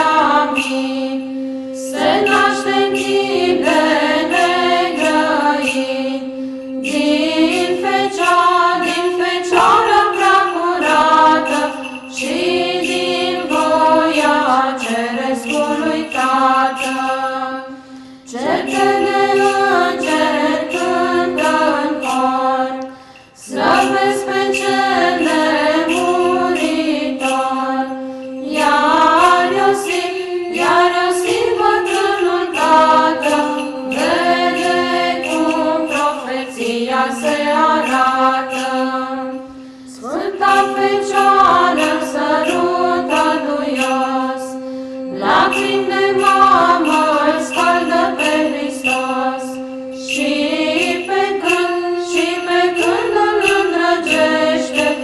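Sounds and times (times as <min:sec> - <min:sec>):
women's choir singing: 0:00.0 - 0:55.0.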